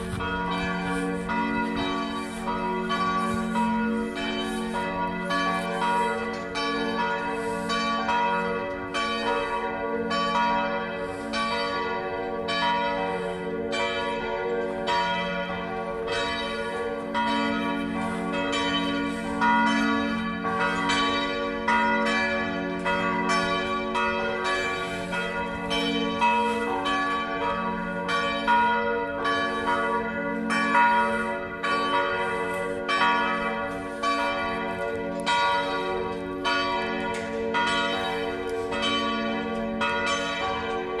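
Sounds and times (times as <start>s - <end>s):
church bells ringing: 0.0s - 41.0s.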